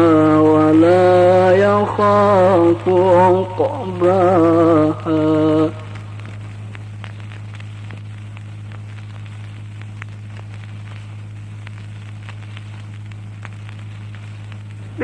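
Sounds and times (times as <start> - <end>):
low electrical hum: 0.0 - 15.0
recording hiss: 0.0 - 15.0
small crackles: 0.0 - 15.0.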